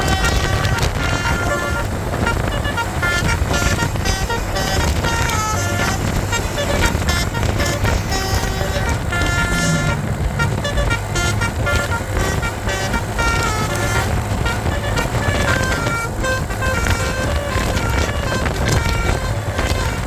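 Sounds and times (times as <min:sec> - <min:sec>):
bus engine running: 0:00.0 - 0:20.0
bus horn playing a tune: 0:00.0 - 0:20.0.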